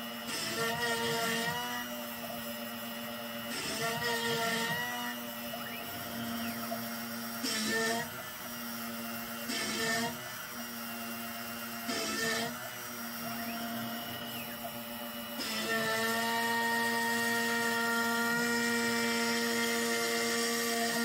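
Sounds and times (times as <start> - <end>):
axis motors whining: 0.0 - 21.0
router bit cutting wood: 0.0 - 21.0
router spindle whine: 0.0 - 21.0.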